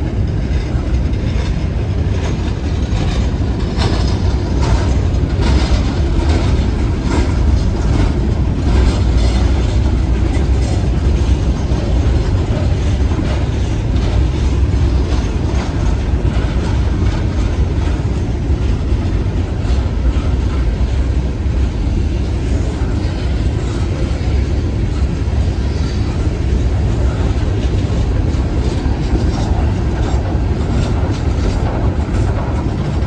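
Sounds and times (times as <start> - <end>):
train rumbling over rails: 0.0 - 33.0.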